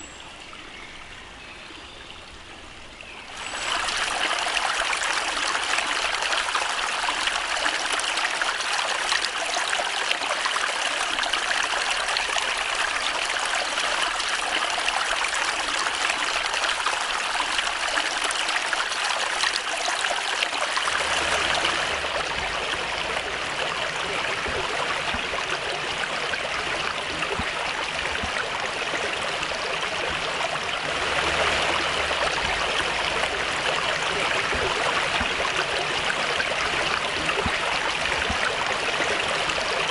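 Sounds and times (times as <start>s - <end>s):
brook trickling over stones: 0.0s - 39.9s.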